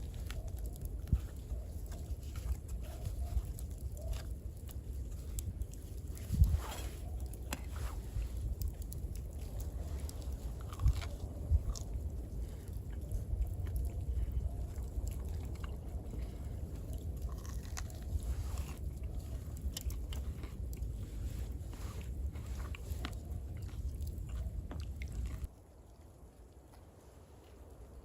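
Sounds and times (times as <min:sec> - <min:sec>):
person chewing and crunching: 0:00.0 - 0:25.5.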